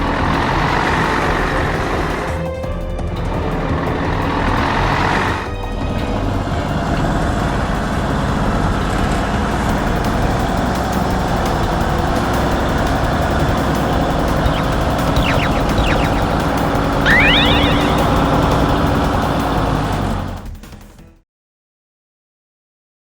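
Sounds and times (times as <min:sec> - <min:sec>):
vehicle engine noise: 0:00.0 - 0:20.5
background music: 0:00.0 - 0:21.2.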